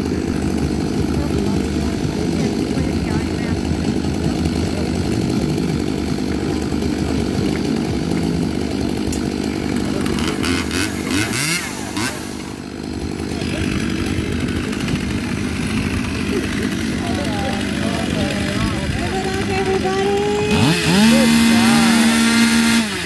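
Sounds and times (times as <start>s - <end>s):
chainsaw running: 0.0s - 23.0s.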